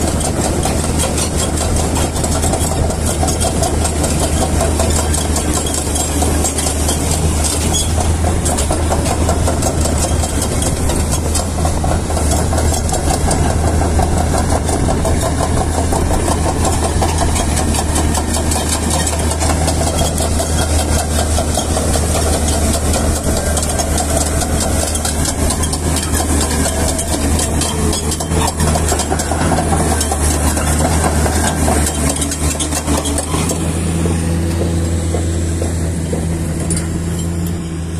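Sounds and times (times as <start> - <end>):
excavator diesel engine running: 0.0 - 37.9
steel tracks moving: 0.0 - 37.9.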